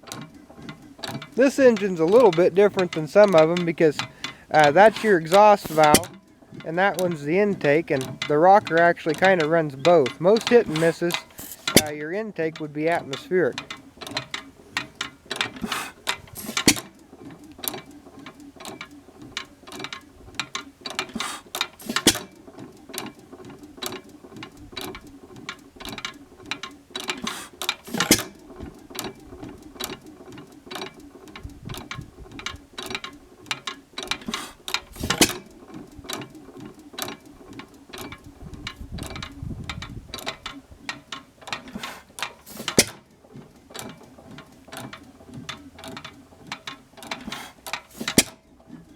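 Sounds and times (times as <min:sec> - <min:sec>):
engine valve gear clicking: 0:00.0 - 0:48.9.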